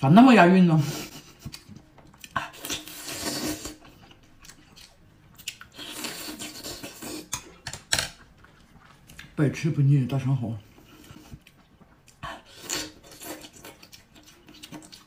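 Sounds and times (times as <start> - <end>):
person chewing with mouth smacks: 1.2 - 9.4, 10.8 - 15.0.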